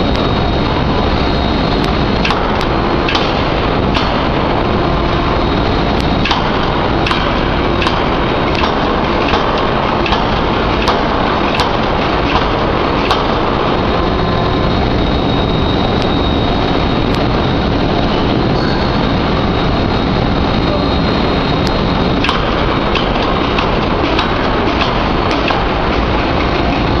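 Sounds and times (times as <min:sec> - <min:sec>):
loud steady din: 0:00.0 - 0:27.0
forging hammer striking hot metal: 0:01.8 - 0:15.8, 0:18.1 - 0:27.0.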